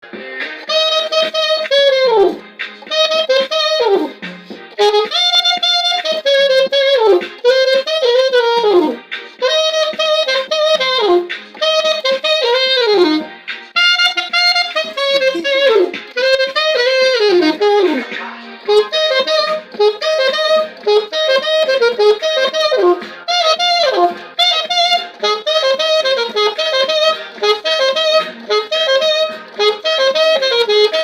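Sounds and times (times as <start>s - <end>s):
saxophone melody: 0.1s - 31.0s.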